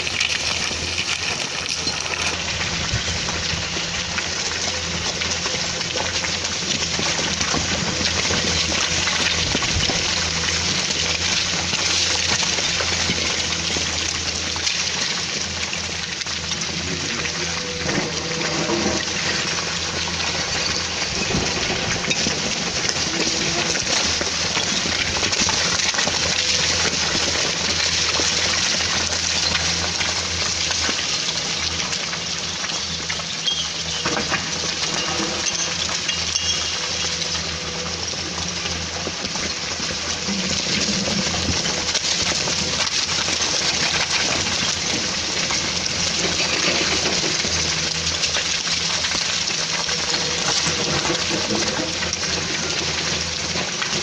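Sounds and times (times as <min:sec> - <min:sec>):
diesel engine running: 0:00.0 - 0:54.0
rocks and soil spilling: 0:00.0 - 0:54.0.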